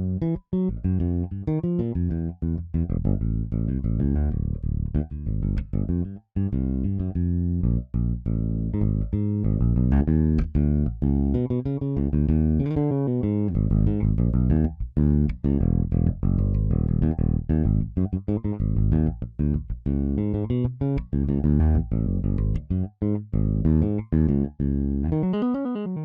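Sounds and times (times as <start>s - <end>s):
funk electric bass line: 0.0s - 26.0s.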